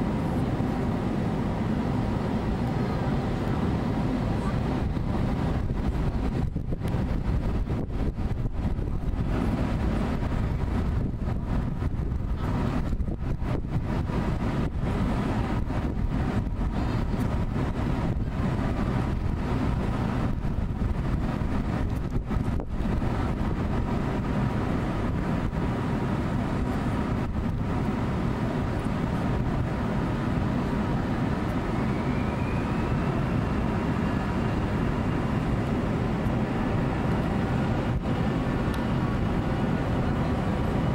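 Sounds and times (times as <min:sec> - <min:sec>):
jet engines rumbling with whine: 0:00.0 - 0:40.9
jet engines spooling up: 0:00.0 - 0:40.9.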